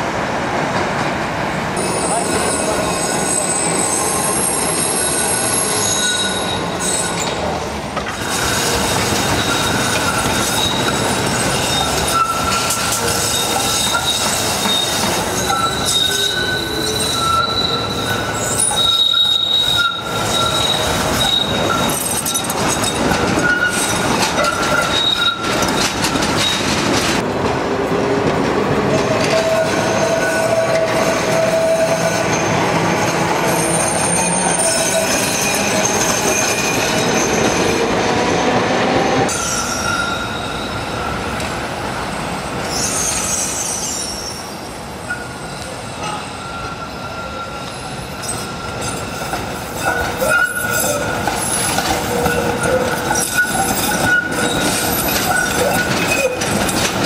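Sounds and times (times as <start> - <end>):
trams rumbling on rails: 0.0 - 57.0
tram wheels squealing: 1.8 - 27.2, 28.9 - 57.0.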